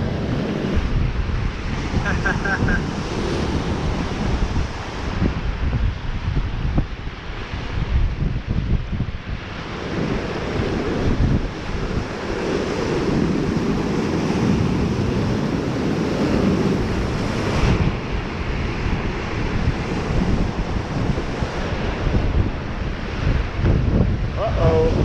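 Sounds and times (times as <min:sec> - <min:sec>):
surf washing on shore: 0:00.0 - 0:25.0
wind buffeting microphone: 0:00.0 - 0:25.0.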